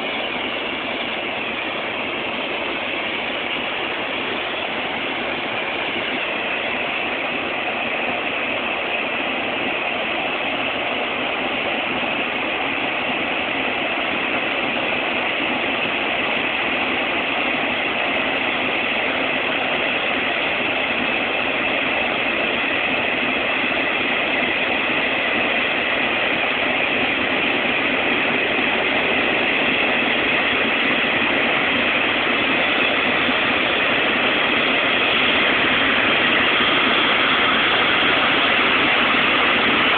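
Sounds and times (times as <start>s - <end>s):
jet engines rushing: 0.0s - 39.9s.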